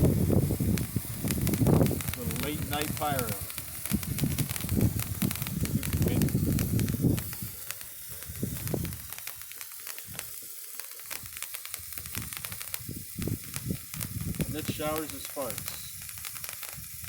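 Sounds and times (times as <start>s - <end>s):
sparkler sizzling crackle: 0.0s - 17.0s.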